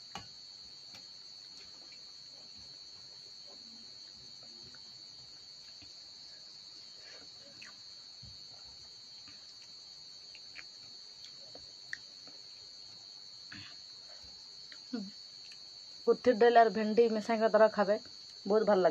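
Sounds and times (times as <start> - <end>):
crickets chirring: 0.0 - 18.9.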